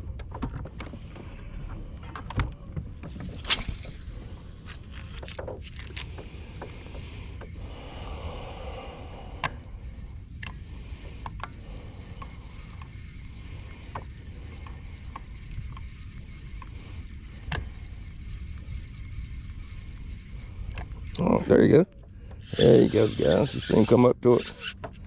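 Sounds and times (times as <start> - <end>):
boat engine rumble: 0.0 - 24.6
fishing reel clicks: 3.3 - 25.0.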